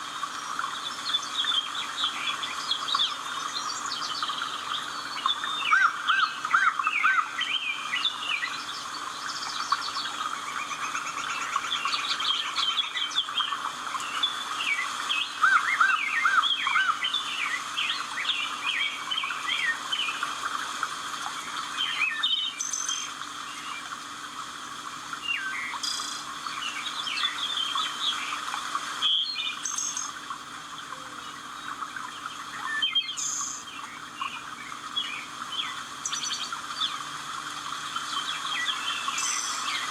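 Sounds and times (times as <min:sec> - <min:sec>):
wild birds chirping and singing: 0:00.0 - 0:24.0, 0:25.1 - 0:39.9.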